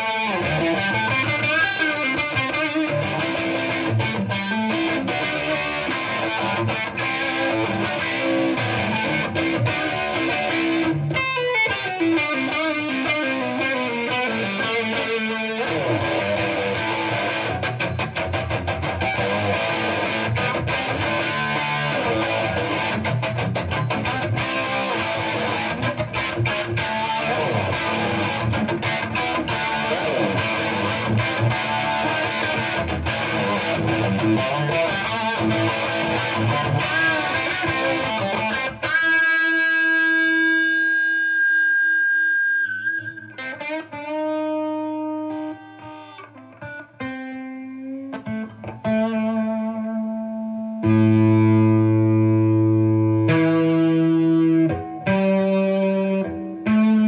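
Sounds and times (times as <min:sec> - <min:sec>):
overdriven electric guitar riffs: 0:00.0 - 0:57.0.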